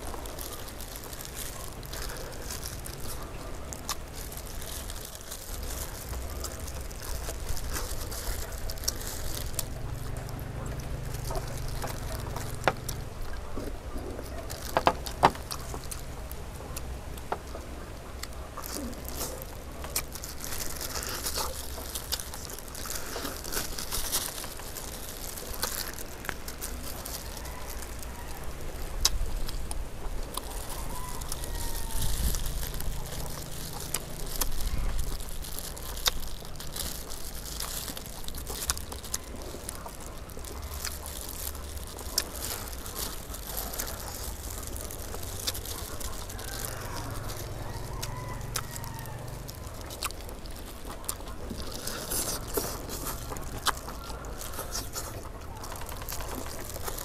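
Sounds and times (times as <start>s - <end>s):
chewing and mouth noises: 0.0s - 57.0s
crisp skin crunching: 0.0s - 57.0s
plastic gloves crinkling: 0.0s - 57.0s.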